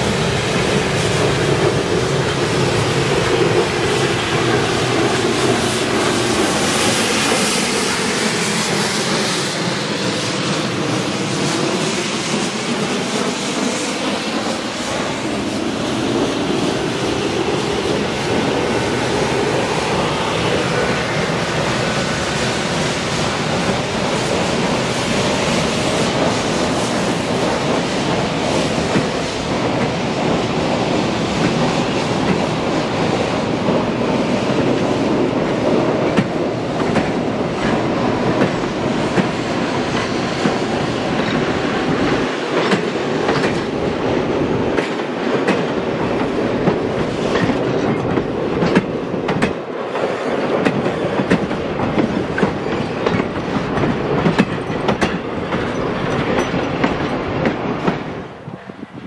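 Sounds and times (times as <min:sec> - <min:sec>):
train rumble: 0:00.0 - 0:59.0
train wheels clicking over rail joints: 0:00.1 - 0:58.5.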